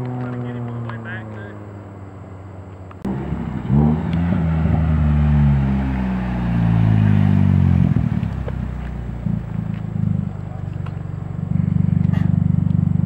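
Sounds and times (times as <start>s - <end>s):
car exhaust driving past: 0.0s - 13.0s.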